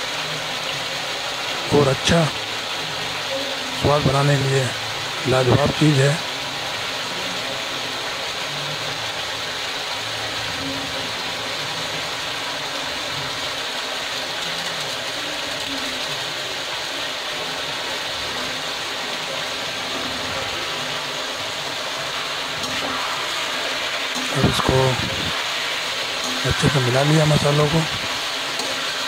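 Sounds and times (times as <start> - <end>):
vegetables frying in oil: 0.0 - 29.0.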